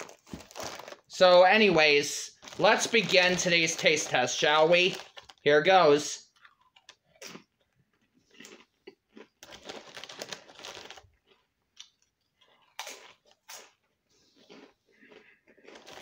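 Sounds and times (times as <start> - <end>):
tortilla chips crunching: 0.0 - 1.8, 2.4 - 5.5, 6.2 - 16.0.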